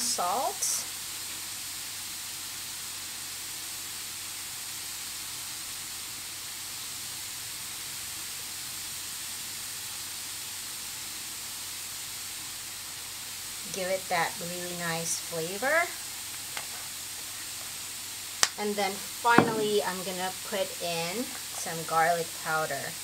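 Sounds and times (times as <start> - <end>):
rice sizzling in a pan: 0.0 - 23.0.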